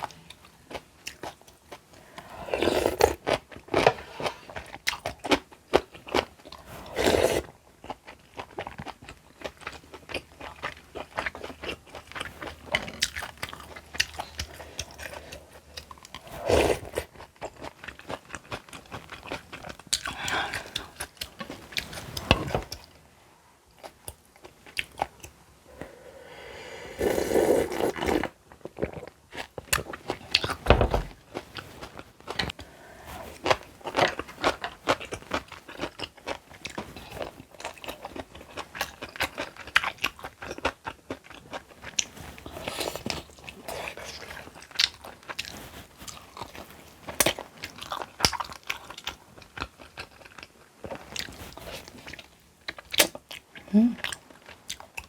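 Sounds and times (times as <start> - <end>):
person chewing crunchy food: 0.0 - 23.0, 23.7 - 55.0.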